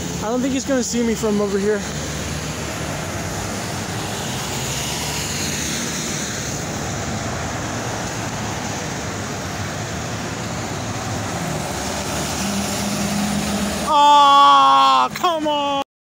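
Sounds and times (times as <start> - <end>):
road traffic passing: 0.0 - 15.9.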